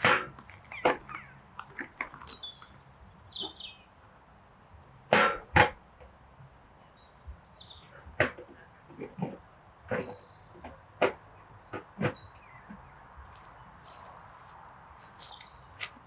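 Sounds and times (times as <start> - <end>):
small birds chirping: 0.5 - 4.1, 6.5 - 16.0.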